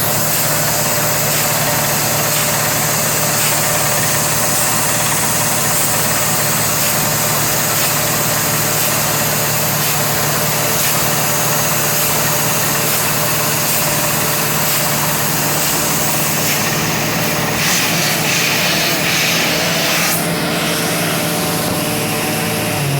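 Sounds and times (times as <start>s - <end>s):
drilling rig engine hum: 0.0s - 22.9s.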